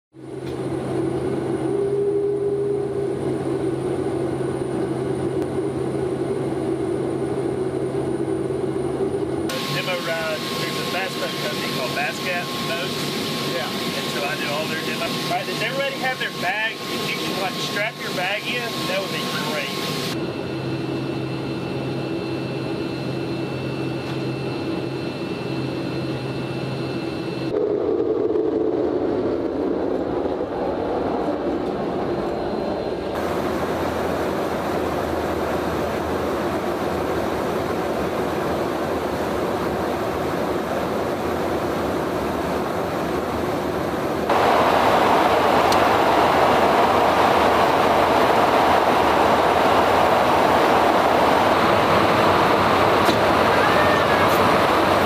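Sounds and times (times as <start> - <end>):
aircraft cabin engine rumble: 0.2 - 55.0.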